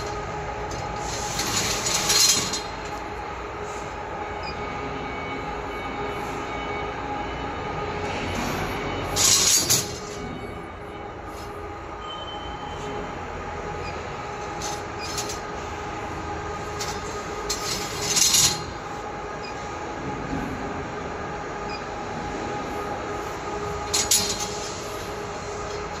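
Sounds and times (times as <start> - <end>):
laser cutting machine humming: 0.0 - 26.0.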